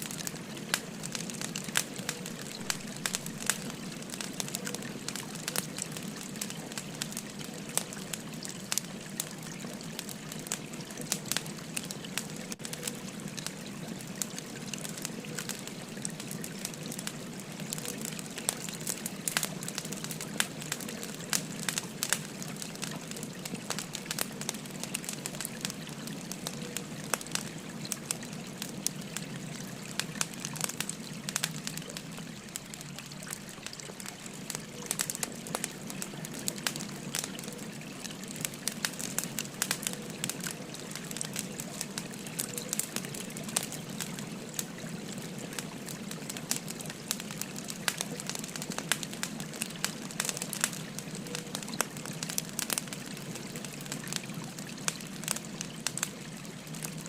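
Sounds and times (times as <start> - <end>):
babbling river: 0.0 - 57.0
wood fire crackling: 0.0 - 57.0.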